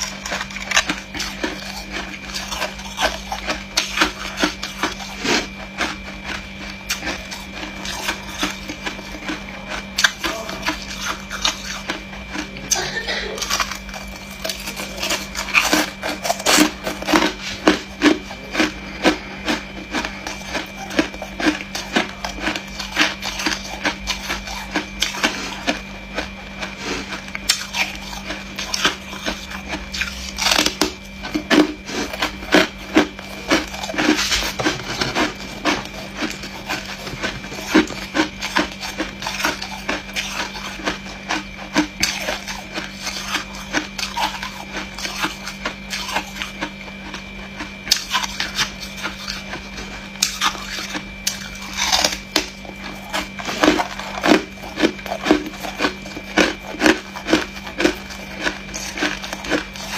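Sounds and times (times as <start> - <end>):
faint steady hum: 0.0 - 59.9
ice being chewed crunching: 0.0 - 59.9.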